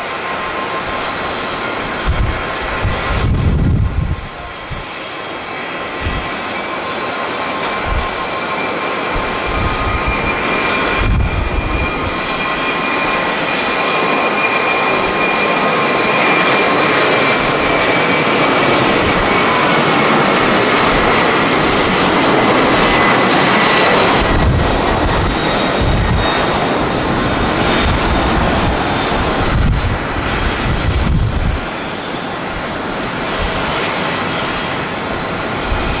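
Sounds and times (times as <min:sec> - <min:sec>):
jet engines rushing: 0:00.0 - 0:36.0
wind buffeting microphone: 0:00.5 - 0:06.8, 0:07.6 - 0:36.0.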